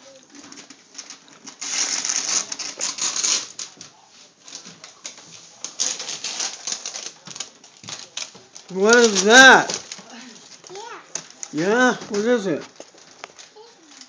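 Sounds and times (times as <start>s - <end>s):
wrapping paper tearing and crinkling: 0.0s - 14.0s.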